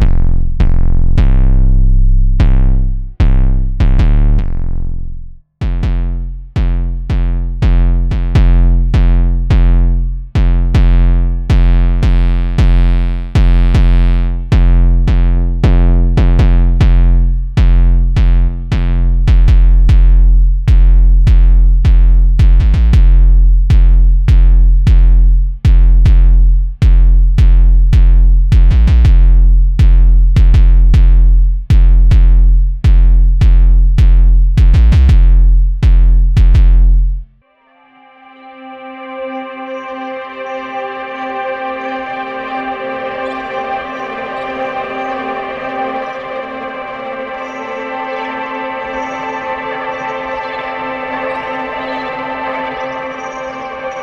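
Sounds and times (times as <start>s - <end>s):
electronic music with drum beat: 5.6s - 36.8s, 39.5s - 54.0s.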